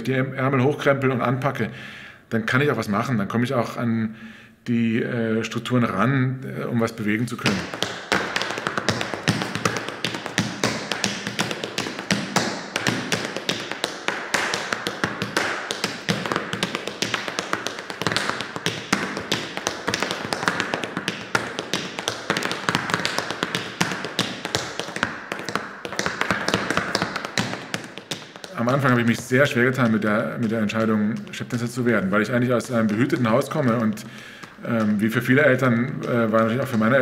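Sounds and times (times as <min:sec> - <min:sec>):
tap shoes tapping: 0:07.4 - 0:37.0.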